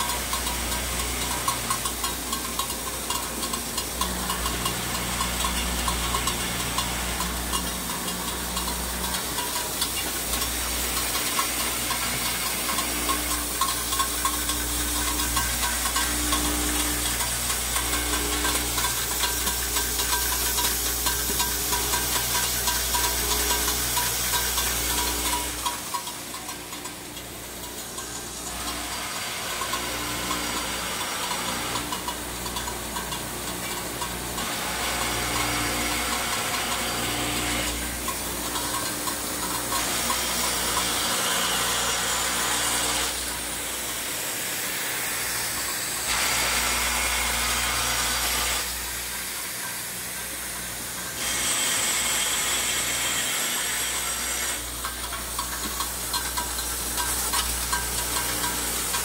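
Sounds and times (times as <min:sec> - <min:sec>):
dense clatter of small clicks: 0:00.0 - 0:59.0.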